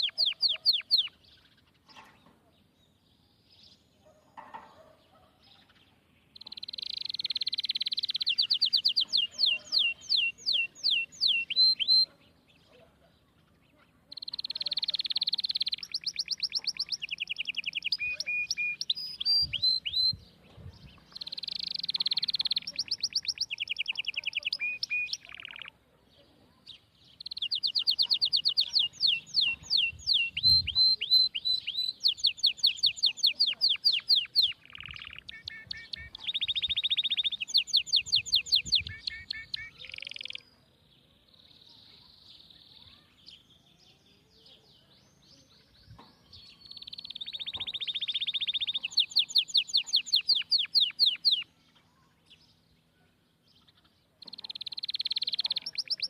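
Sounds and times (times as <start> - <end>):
songbird singing trills and whistles: 0.0 - 1.8, 5.0 - 56.0.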